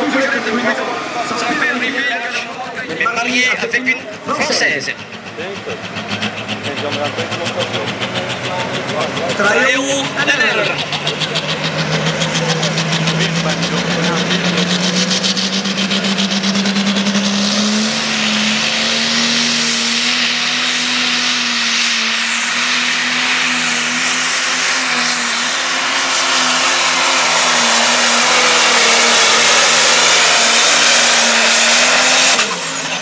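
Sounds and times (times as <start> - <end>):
tractor diesel engine at full load: 0.0 - 33.0.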